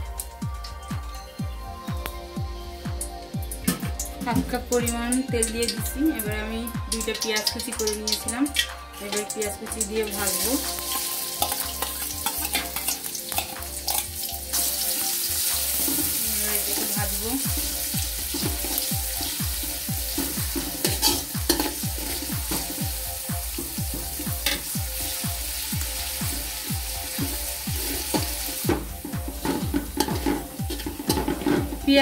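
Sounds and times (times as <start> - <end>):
onions sizzling in oil: 5.1 - 32.0.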